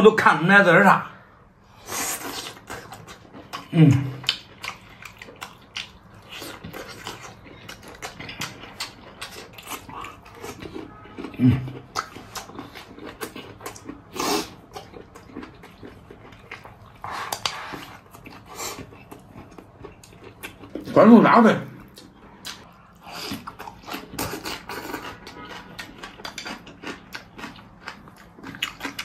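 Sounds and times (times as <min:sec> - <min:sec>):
chewing and lip-smacking: 0:02.0 - 0:21.0, 0:21.6 - 0:29.0.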